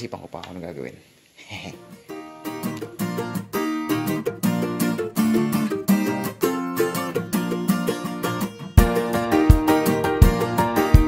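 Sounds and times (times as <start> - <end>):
plucked string instrument music: 1.9 - 11.0.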